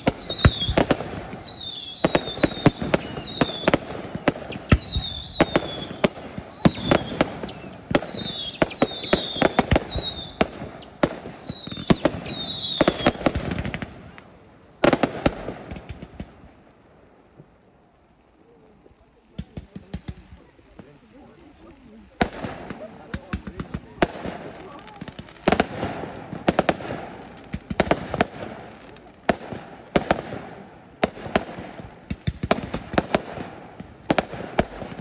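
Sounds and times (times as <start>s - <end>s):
fireworks whistling: 0.0s - 16.4s, 19.4s - 35.0s
fireworks bangs: 0.0s - 16.7s, 19.2s - 35.0s.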